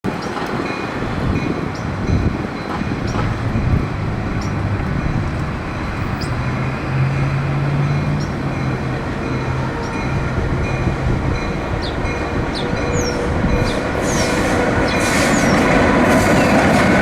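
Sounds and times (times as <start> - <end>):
street traffic: 0.1 - 17.0.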